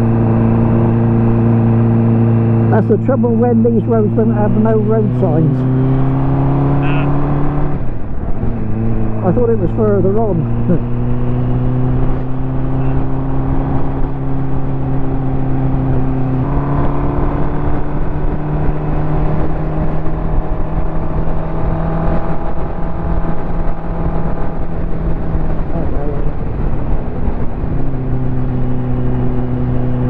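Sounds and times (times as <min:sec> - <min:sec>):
motorcycle engine running: 0:00.0 - 0:30.0
wind and road noise: 0:00.0 - 0:30.0.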